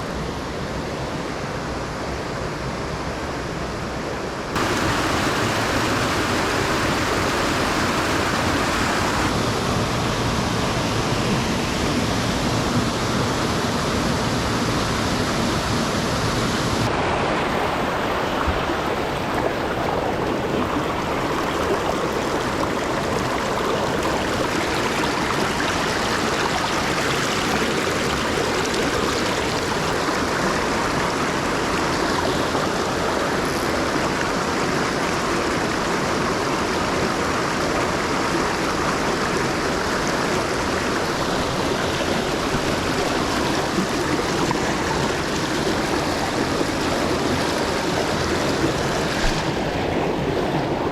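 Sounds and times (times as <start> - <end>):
water rushing over rocks: 4.5 - 50.9.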